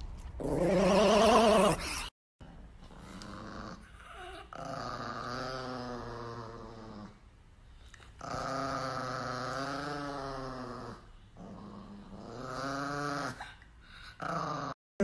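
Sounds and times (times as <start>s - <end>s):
small dog growling: 0.4s - 7.3s, 8.2s - 14.8s.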